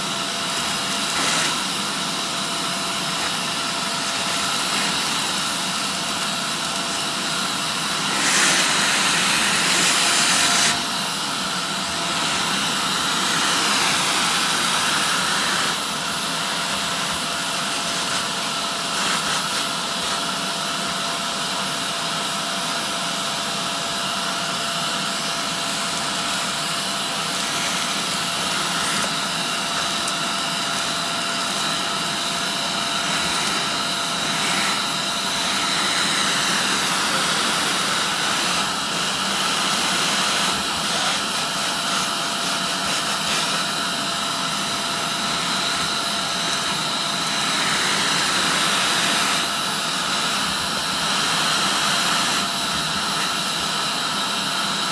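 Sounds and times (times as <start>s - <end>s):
vacuum cleaner suction whine: 0.0s - 54.9s.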